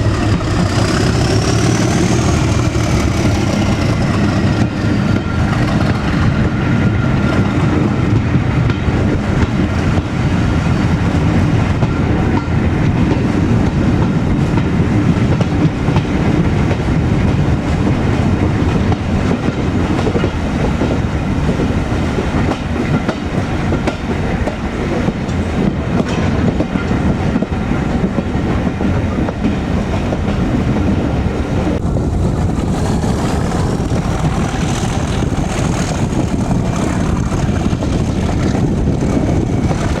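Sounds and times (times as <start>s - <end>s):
diesel locomotive engine working: 0.0s - 40.0s
wheels rumbling and clattering on rails: 0.0s - 40.0s.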